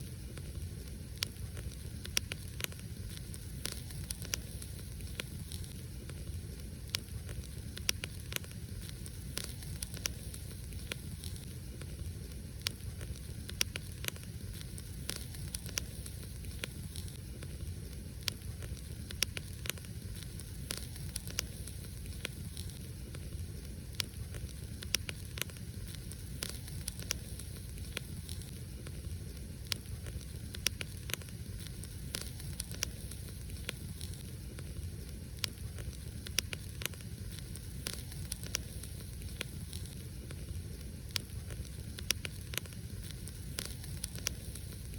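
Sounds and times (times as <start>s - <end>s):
faint hiss: 0.0s - 44.9s
fire crackles and pops: 0.0s - 44.9s
low rumble of flames: 0.0s - 44.9s.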